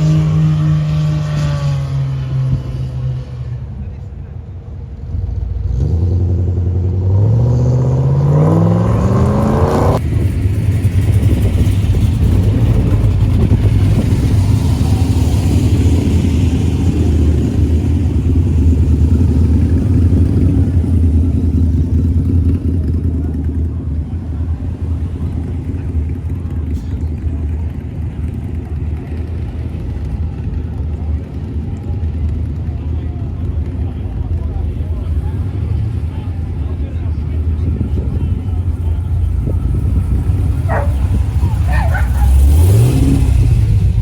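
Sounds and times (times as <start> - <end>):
car engine accelerating: 0.0 - 4.2, 4.8 - 44.0.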